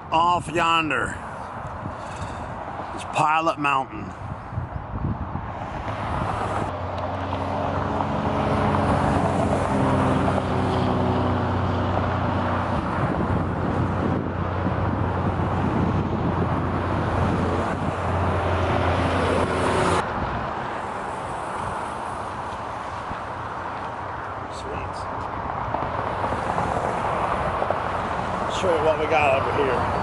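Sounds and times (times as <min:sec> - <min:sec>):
tyres of passing traffic: 0:00.0 - 0:30.0.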